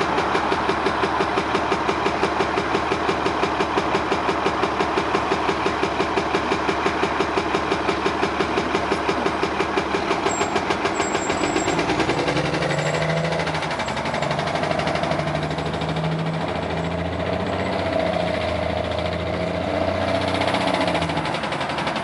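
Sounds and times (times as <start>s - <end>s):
bus diesel engine knocking: 0.0s - 22.0s.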